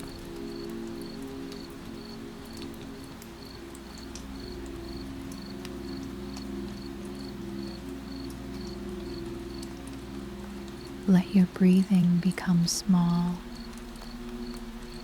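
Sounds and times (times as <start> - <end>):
cricket chirping: 0.0 - 2.8, 3.4 - 11.1, 12.6 - 15.0
ambient music pad: 0.0 - 15.0
soft rain: 0.0 - 15.0.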